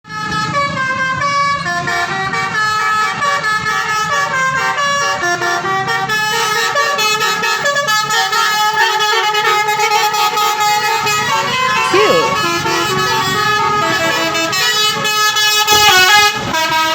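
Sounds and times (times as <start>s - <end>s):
bus air horn playing a tune: 0.1s - 16.9s.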